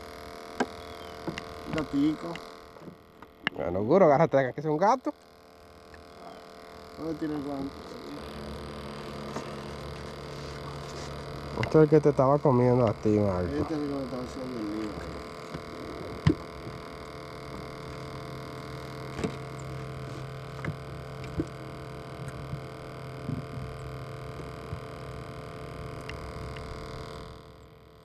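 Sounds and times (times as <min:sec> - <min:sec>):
small electric motor humming: 0:00.0 - 0:28.0.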